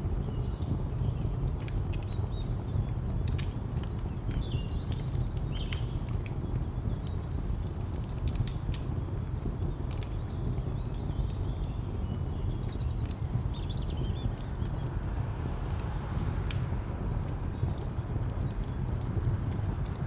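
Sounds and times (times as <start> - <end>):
fire crackling and popping: 0.0 - 20.0
distant traffic rumble: 0.1 - 20.0.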